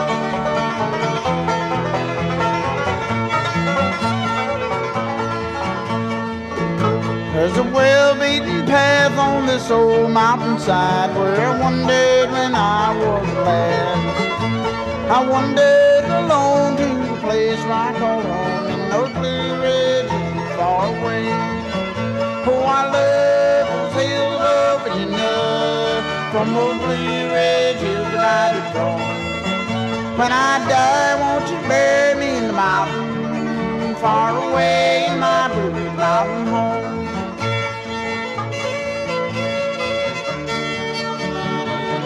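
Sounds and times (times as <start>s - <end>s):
banjo: 0.0s - 42.0s
bluegrass band playing: 0.0s - 42.0s.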